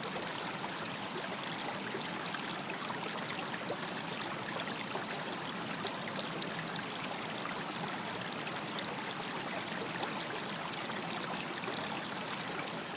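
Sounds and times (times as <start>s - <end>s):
stream running over stones: 0.0s - 12.9s.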